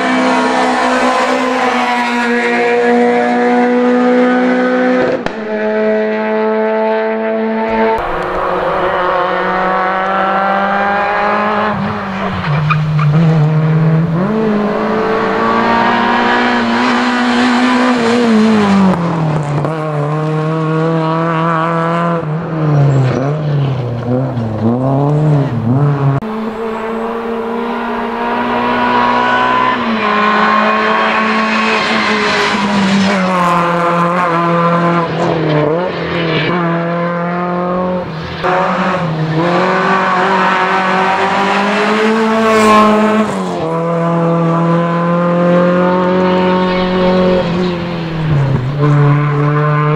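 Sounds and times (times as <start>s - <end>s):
rally car engines revving hard: 0.0s - 49.9s.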